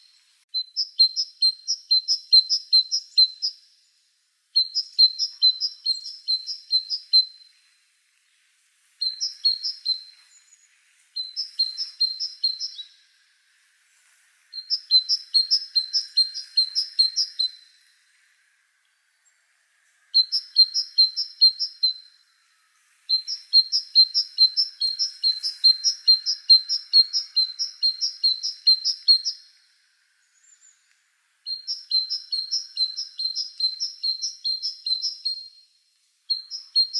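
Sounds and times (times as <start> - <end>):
small bird chirping: 0.0 - 7.7, 8.3 - 13.3, 14.5 - 36.9.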